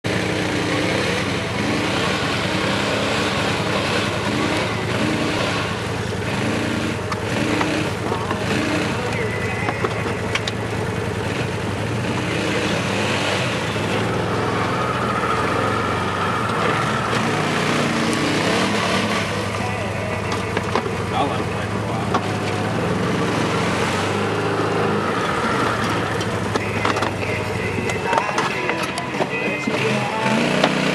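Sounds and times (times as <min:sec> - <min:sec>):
utility vehicle engine revving: 0:00.0 - 0:30.9.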